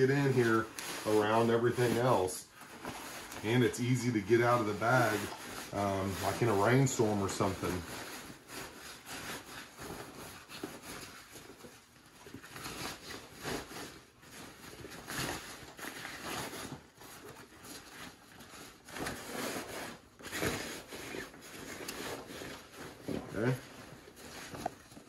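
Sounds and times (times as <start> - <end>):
backpack material scraping: 0.0 - 25.0
fabric rustling and crumpling: 0.0 - 25.0.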